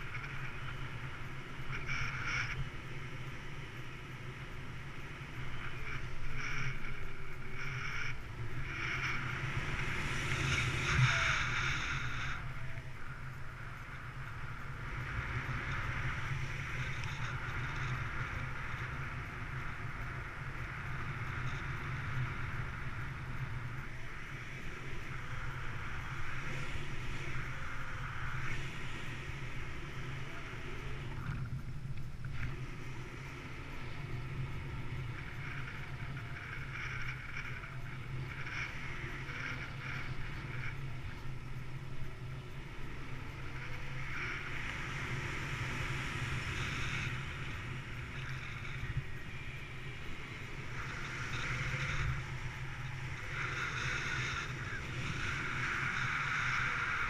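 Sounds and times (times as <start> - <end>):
wind rushing on microphone: 0.0 - 57.0.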